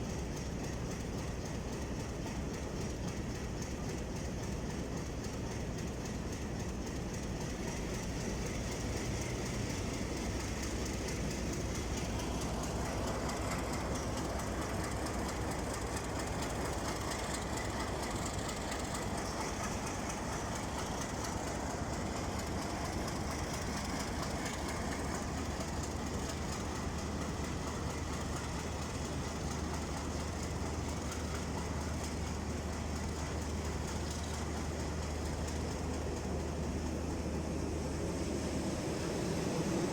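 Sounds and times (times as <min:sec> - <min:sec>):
diesel locomotive engine: 0:00.0 - 0:39.9
train wheels on rails: 0:00.0 - 0:39.9.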